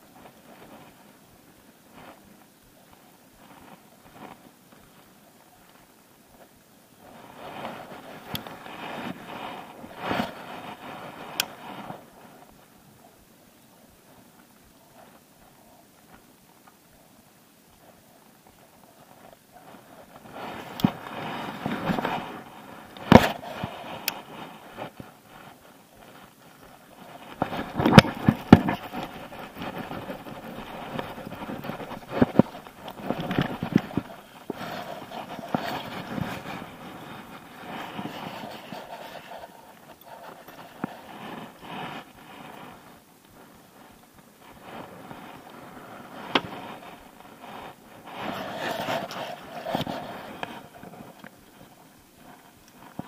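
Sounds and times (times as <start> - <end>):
rustling and splashing: 0.0 - 53.0.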